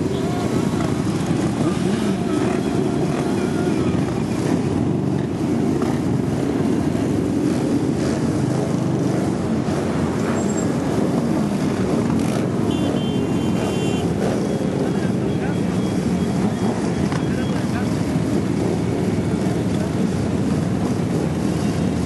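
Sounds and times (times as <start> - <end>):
many motorcycle engines running: 0.0 - 22.0.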